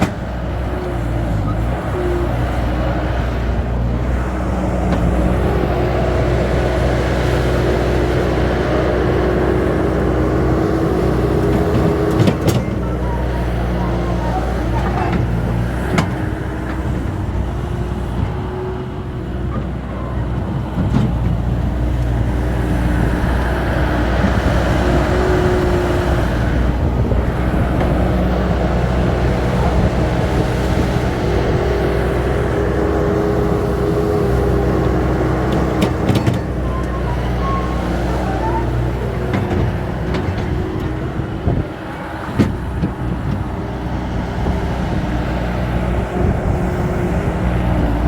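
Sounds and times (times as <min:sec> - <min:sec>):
heavy machinery diesel engine: 0:00.0 - 0:48.0.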